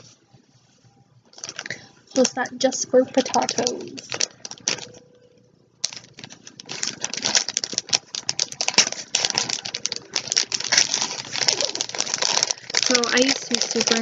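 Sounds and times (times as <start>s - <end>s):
packaging crinkling: 1.3s - 14.0s.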